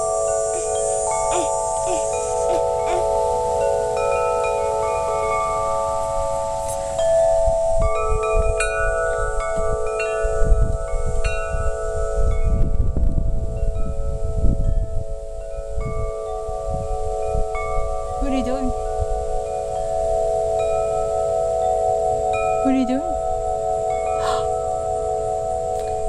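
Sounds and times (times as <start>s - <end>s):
wind chime ringing: 0.0s - 26.0s.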